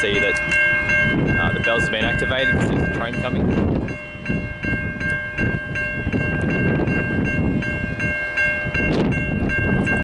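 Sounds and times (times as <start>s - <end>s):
level crossing warning bells: 0.0s - 10.0s
steady low rumble: 0.0s - 10.0s.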